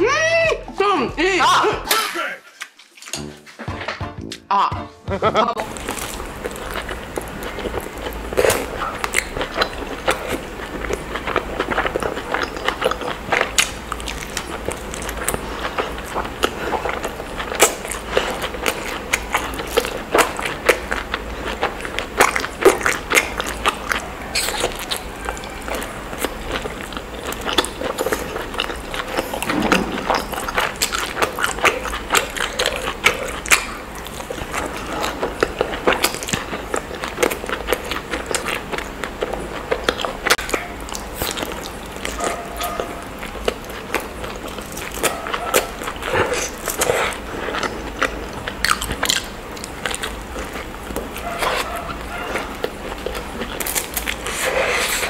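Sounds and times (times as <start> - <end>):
wet chewing and lip smacking: 5.6 - 55.0.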